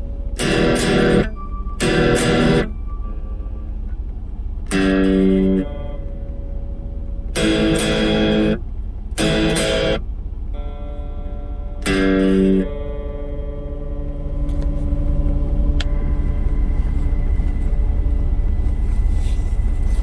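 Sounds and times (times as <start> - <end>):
electric guitar strummed chords: 0.0 - 19.3
amplifier low hum: 0.0 - 20.0.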